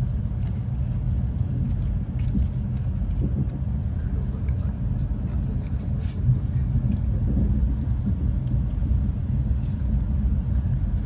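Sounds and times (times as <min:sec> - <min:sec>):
train rumbling heard on board: 0:00.0 - 0:11.0.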